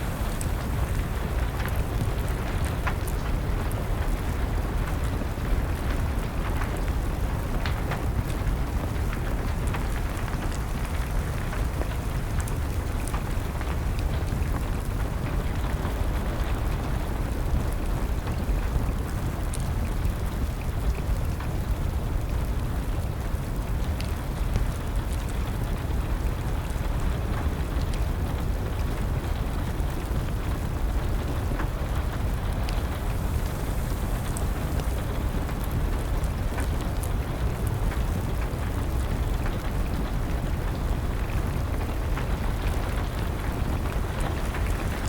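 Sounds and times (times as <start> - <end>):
steady rain: 0.0 - 45.0
wood fire crackling: 0.0 - 45.0.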